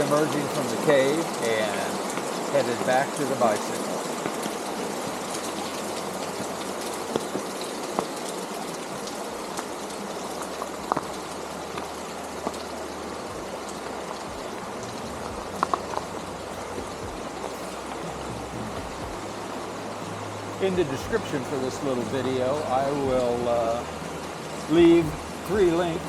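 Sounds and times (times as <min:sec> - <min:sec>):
stream echoing in cave: 0:00.0 - 0:26.0.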